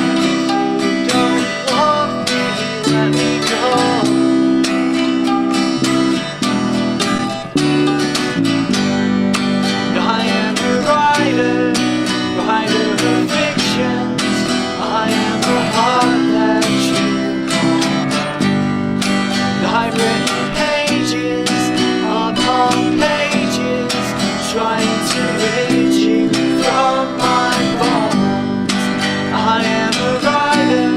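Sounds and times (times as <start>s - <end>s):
bass: 0.0s - 30.9s
strummed acoustic guitar: 0.0s - 30.9s.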